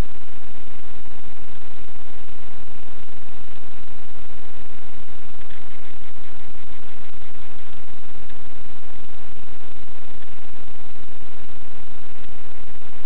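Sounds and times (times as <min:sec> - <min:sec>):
faint buzz: 0:00.0 - 0:13.0
static hiss: 0:00.0 - 0:13.0.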